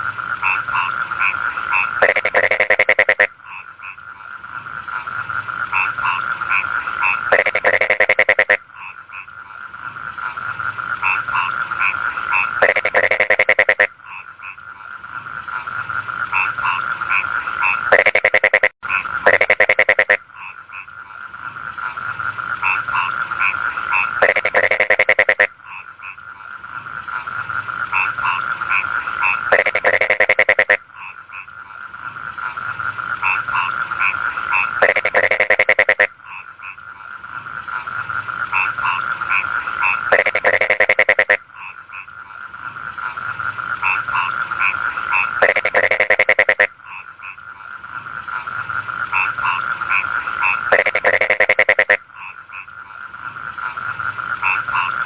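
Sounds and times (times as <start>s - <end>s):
frogs croaking rapidly: 0.0s - 55.0s
frogs trilling hum: 0.0s - 55.0s.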